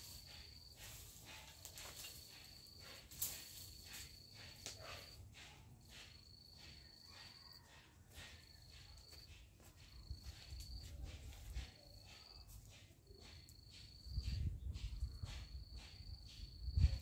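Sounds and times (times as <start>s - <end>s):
faint cricket trilling: 0.0s - 17.0s.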